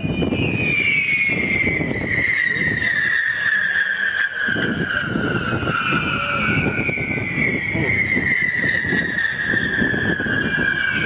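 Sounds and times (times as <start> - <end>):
firework whistle: 0.0 - 11.0.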